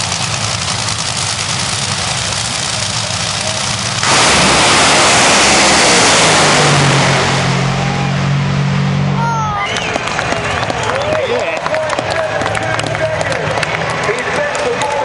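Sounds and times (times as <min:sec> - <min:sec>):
dragster engines idling: 0:00.0 - 0:15.0
dragsters launching at full throttle: 0:00.0 - 0:15.0.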